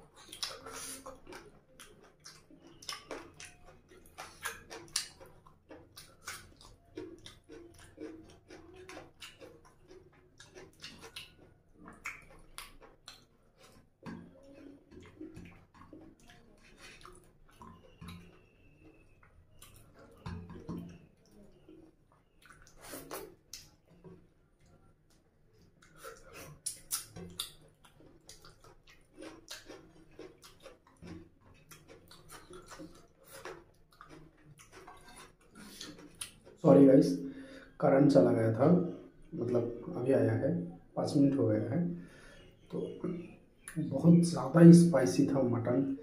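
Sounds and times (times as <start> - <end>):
wet chewing and lip smacks: 0.0 - 37.8, 41.9 - 43.8.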